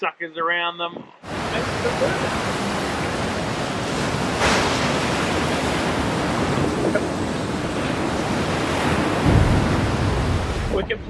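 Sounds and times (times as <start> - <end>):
water rushing along boat hull: 1.2 - 11.0
wind noise: 1.2 - 11.0.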